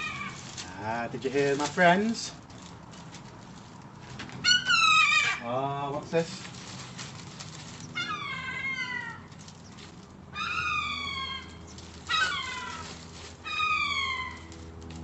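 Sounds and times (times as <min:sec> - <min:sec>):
gulls calling: 0:00.0 - 0:03.2, 0:03.8 - 0:15.0.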